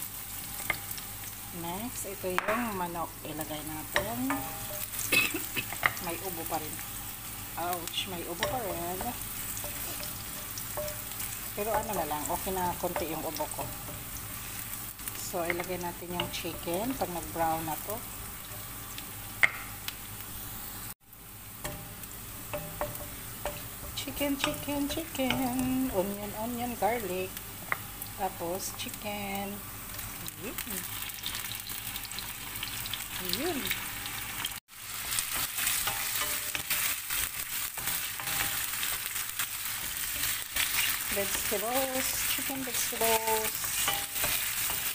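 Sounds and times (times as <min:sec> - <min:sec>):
onion and garlic sizzling in oil: 0:00.0 - 0:44.9.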